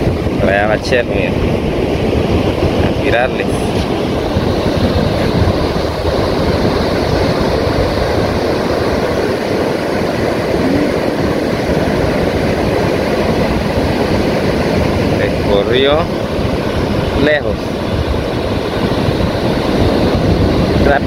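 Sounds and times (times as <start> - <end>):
ocean surf breaking: 0.0 - 21.0
wind rumbling on microphone: 0.0 - 21.0.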